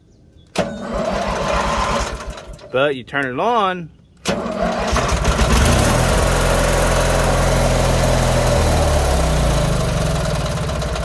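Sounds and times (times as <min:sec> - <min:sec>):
tractor engine starting and running: 0:00.5 - 0:03.4, 0:04.2 - 0:11.0.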